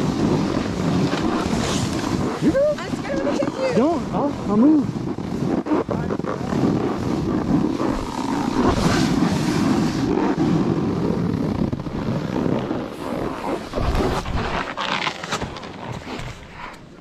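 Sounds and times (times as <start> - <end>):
snowboard scraping across snow: 0.0 - 17.0
wind on microphone: 0.0 - 17.0.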